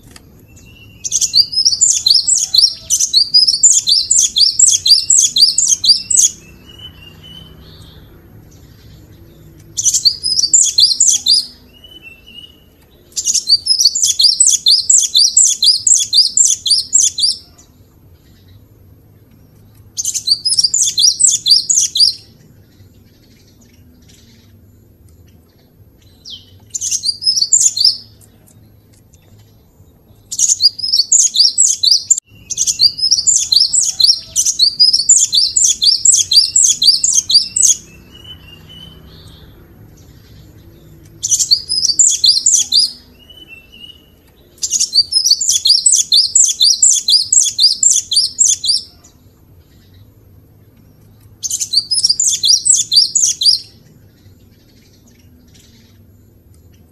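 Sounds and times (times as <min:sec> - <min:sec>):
bird chattering song: 0:00.0 - 0:56.9.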